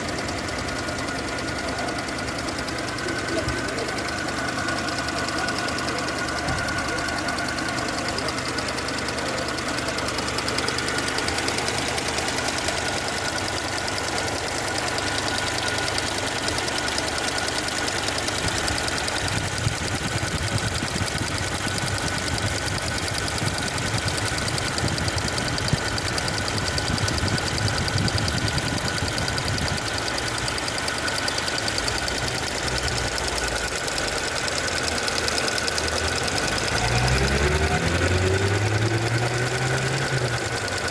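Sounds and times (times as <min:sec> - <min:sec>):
car engine idling: 0:00.0 - 0:40.9
valve ticking rapidly: 0:00.0 - 0:40.9.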